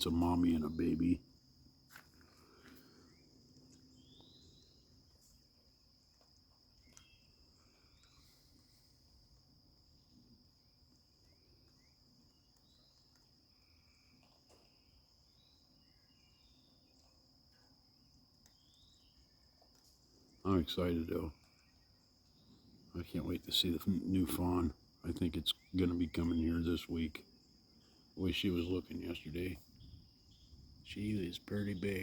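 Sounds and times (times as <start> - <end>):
high-pitched insect trill: 0.0 - 32.0.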